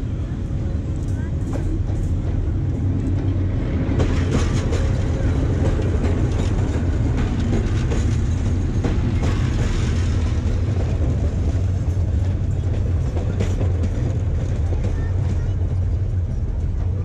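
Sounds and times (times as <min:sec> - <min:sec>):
diesel locomotive engine: 0:00.0 - 0:17.0
train wheels rumbling on rails: 0:00.0 - 0:17.0
wheels clicking over rail joints: 0:00.8 - 0:17.0.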